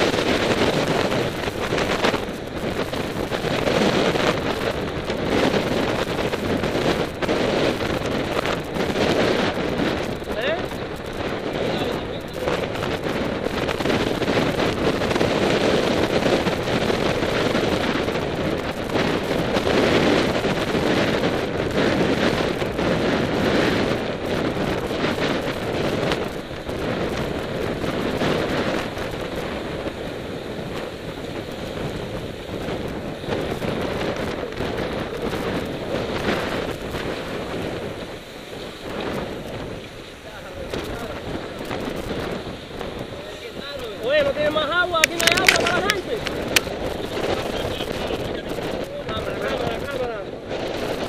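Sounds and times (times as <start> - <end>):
road and tyre noise: 0.0 - 51.0
wind buffeting microphone: 0.0 - 51.0.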